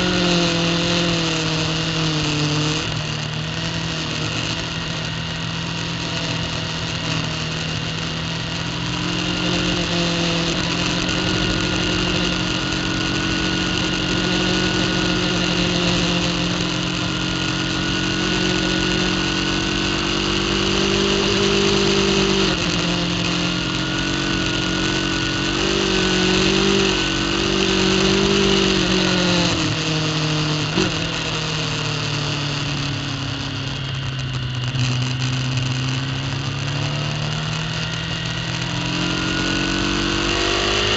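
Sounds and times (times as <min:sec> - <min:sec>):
superbike engine at high revs: 0:00.0 - 0:40.9.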